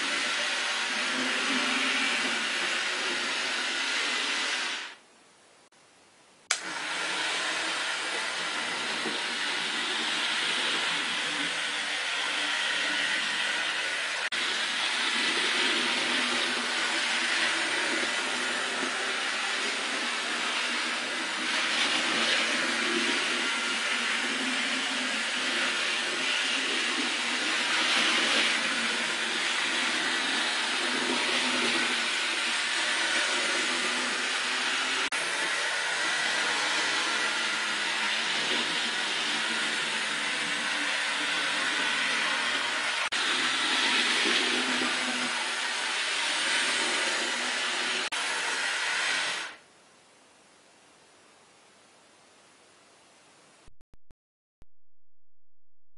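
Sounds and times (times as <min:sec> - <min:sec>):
model train motor whirring: 0:00.0 - 0:05.0, 0:06.5 - 0:49.6.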